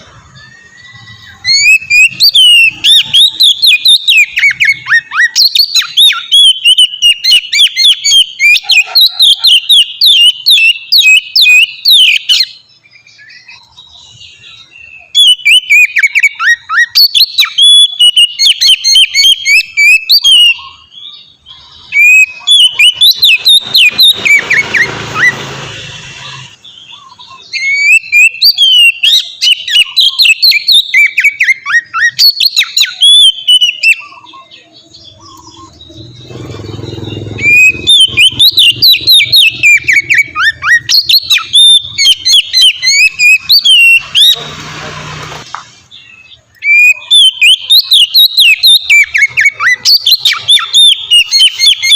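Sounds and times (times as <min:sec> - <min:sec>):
bird singing whistled notes: 0:00.0 - 0:44.4, 0:45.6 - 0:51.9.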